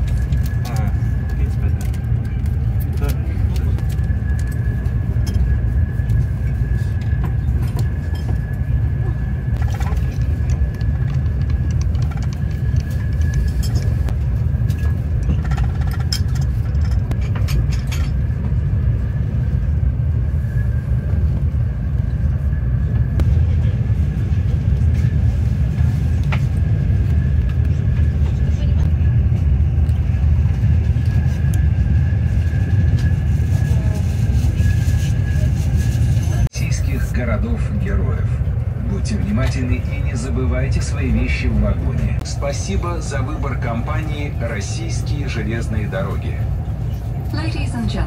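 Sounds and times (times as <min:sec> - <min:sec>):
train cabin low rumble: 0:00.0 - 0:48.0.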